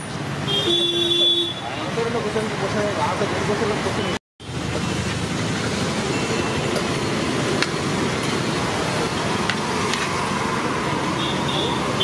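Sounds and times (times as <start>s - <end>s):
roadside traffic noise: 0.0s - 12.0s.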